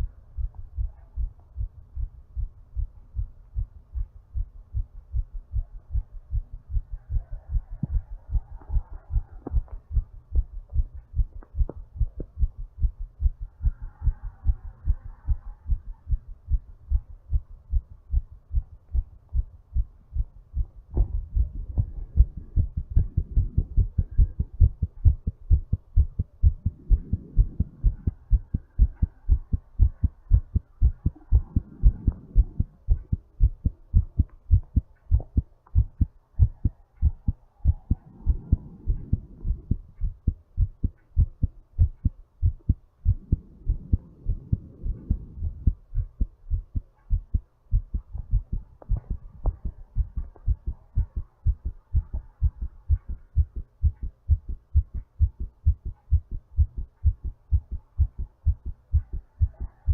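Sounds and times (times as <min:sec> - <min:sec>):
heartbeat thumps: 0:00.0 - 0:59.9.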